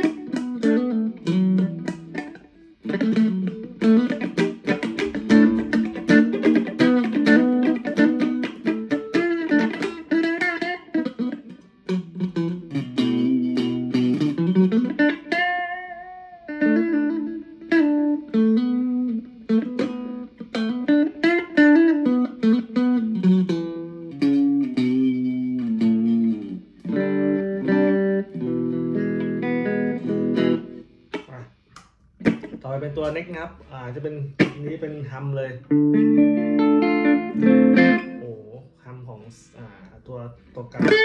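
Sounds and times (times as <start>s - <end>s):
electric guitar through amplifier: 0.0s - 33.2s, 35.7s - 38.6s, 40.4s - 41.0s.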